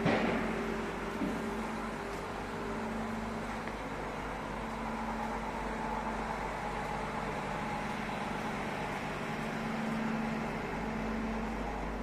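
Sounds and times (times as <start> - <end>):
construction machinery engine running: 0.0 - 12.0.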